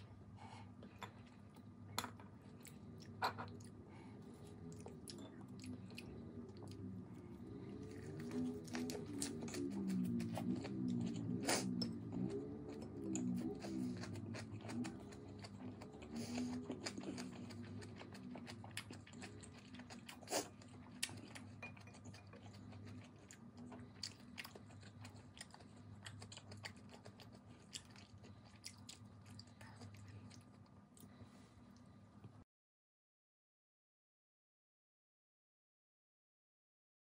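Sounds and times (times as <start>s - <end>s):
chewing: 0.8s - 31.9s.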